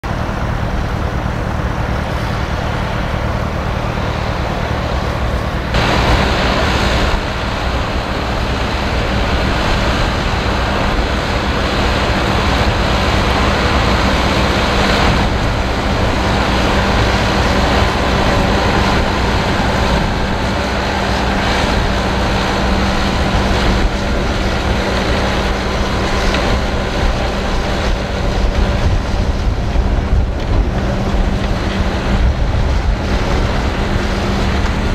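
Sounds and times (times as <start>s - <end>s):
broad rushing noise: 0.0s - 34.9s
tractor diesel engine under load: 0.0s - 34.9s.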